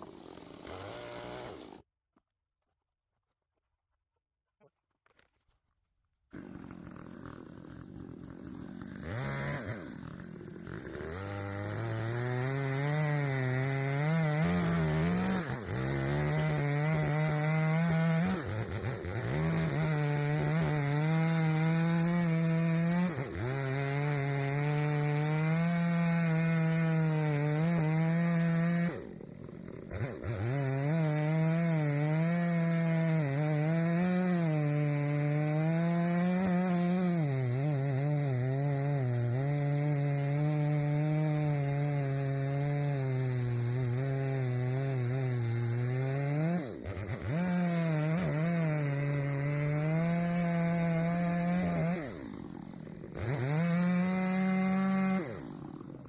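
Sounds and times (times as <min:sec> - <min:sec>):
chainsaw cutting wood: 0:00.0 - 0:01.9, 0:06.3 - 0:56.0.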